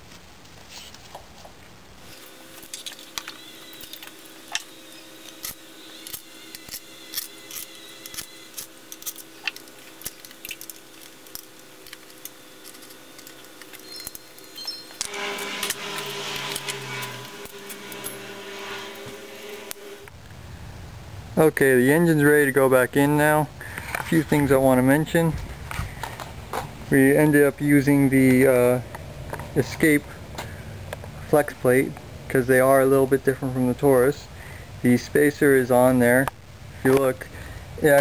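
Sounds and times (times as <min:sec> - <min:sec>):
steady hum: 0:01.7 - 0:38.0.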